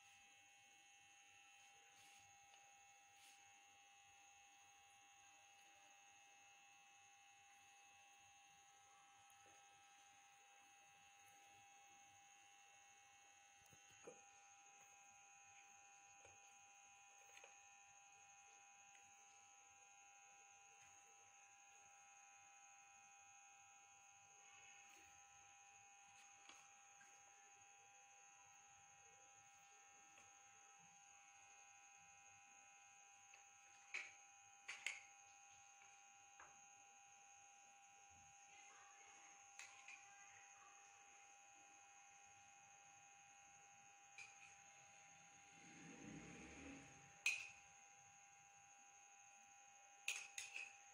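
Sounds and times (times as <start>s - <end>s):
faint electrical hum: 0.0s - 50.9s.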